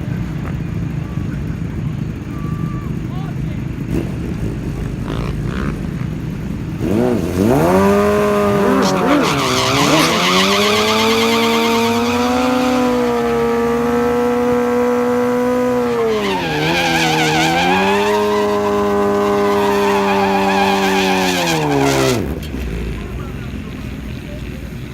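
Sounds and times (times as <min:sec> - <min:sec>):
motorcycle engine revving: 0:03.0 - 0:24.9.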